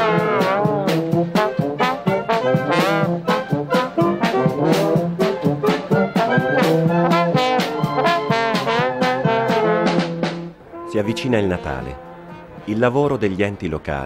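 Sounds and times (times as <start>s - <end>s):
brass band playing: 0.0s - 13.2s.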